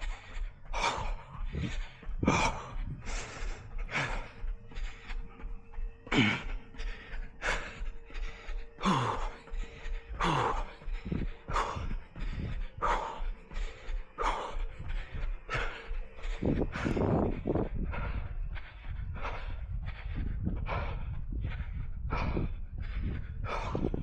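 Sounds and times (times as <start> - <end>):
runner breathing heavily: 0.0 - 24.0.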